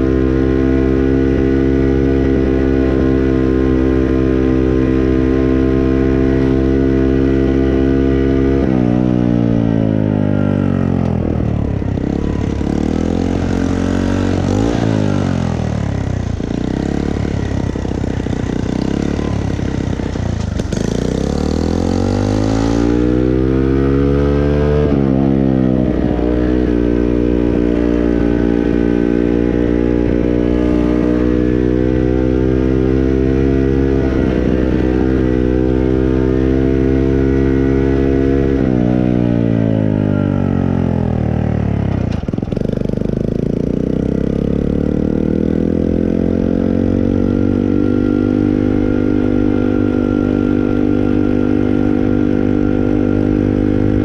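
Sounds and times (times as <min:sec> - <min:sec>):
moped engine running: 0:00.0 - 0:54.0.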